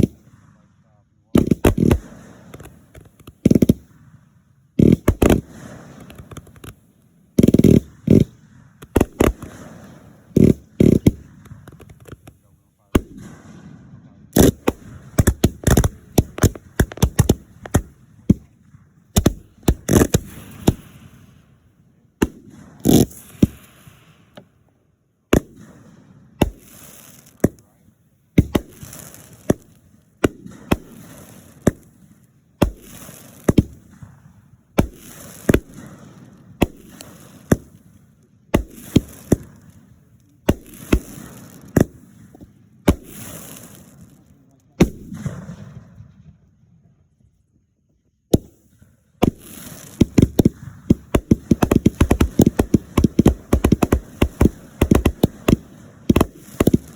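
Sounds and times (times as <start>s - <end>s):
fireworks crackling hiss: 0.0s - 13.7s, 14.4s - 45.8s, 48.3s - 56.9s
fireworks bangs: 0.0s - 47.0s, 48.3s - 56.9s.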